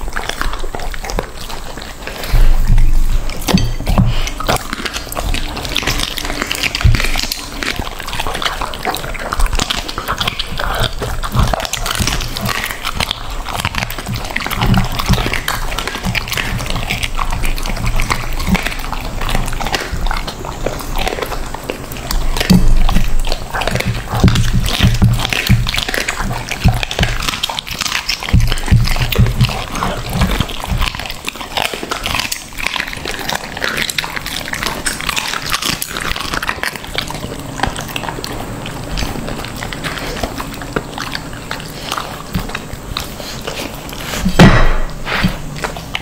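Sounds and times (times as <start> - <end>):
dogs making noise: 0.0 - 46.0.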